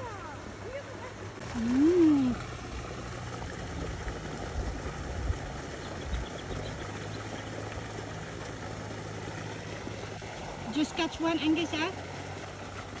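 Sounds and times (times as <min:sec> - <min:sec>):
low mechanical hum: 0:00.0 - 0:13.0
running water noise: 0:00.0 - 0:13.0.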